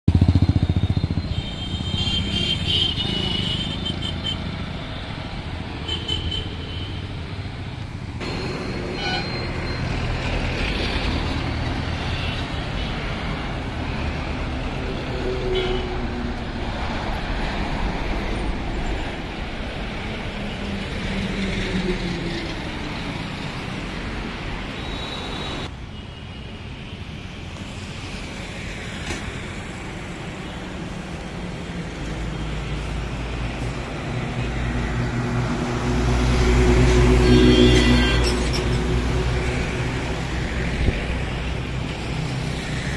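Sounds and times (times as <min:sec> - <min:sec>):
highway traffic: 0:00.0 - 0:42.9.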